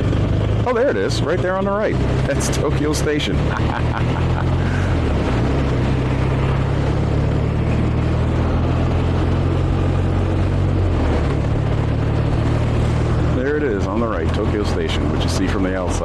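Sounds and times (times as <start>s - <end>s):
motorcycle engine running: 0.0s - 16.0s
wind and road rushing noise: 0.0s - 16.0s.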